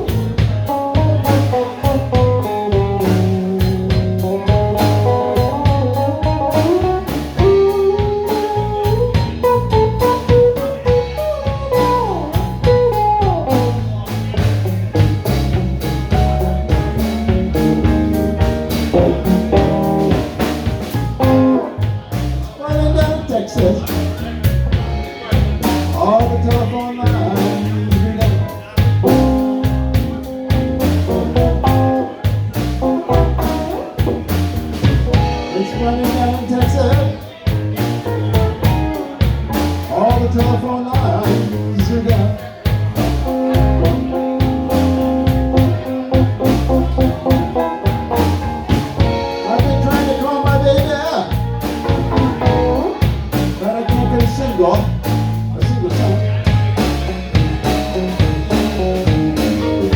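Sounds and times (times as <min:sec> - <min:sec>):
band playing slow blues: 0:00.0 - 0:59.9.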